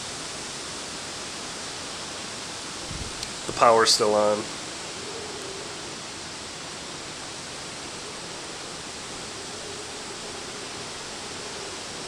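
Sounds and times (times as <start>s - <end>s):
wind rushing around buildings: 0.0s - 12.0s.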